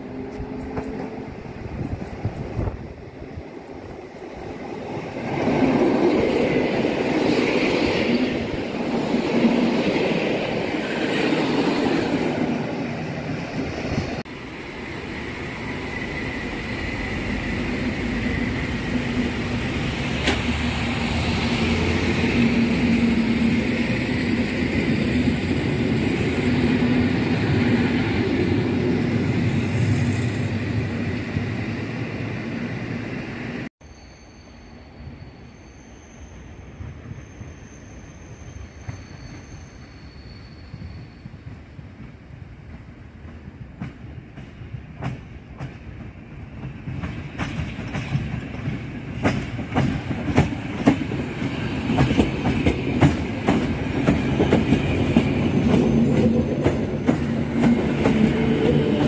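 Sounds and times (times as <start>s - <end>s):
train wheels rumbling over rails: 0.0s - 33.7s, 40.7s - 59.0s.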